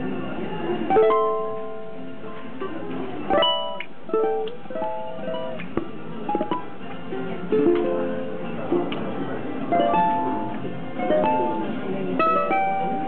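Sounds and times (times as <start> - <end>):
ukulele playing: 0.8 - 13.0.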